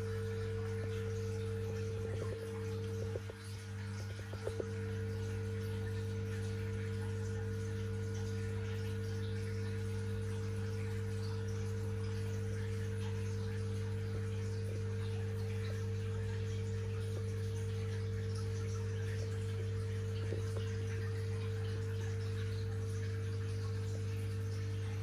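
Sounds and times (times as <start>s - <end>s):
aquarium equipment humming: 0.0s - 25.0s
faint water trickle: 0.0s - 25.0s.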